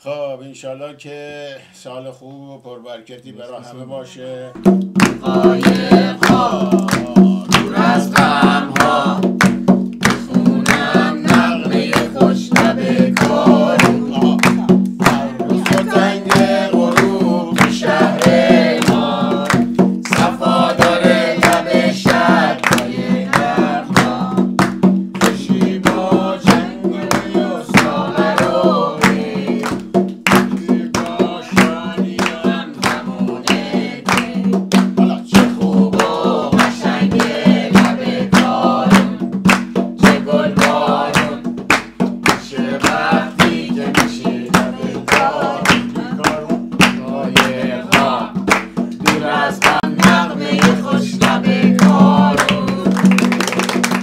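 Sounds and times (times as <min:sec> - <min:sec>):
person singing: 0:04.5 - 0:09.4, 0:10.0 - 0:24.6, 0:25.2 - 0:41.6, 0:42.3 - 0:53.2
steady beat: 0:04.6 - 0:54.0.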